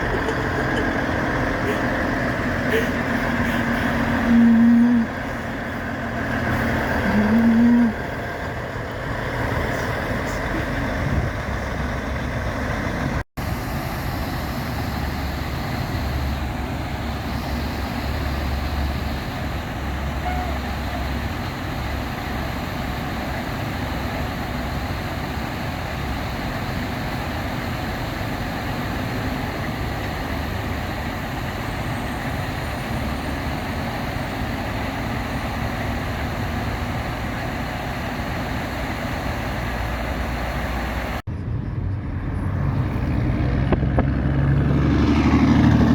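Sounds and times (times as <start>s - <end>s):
road traffic noise: 0.0s - 45.9s
truck engine rumbling: 0.0s - 45.9s.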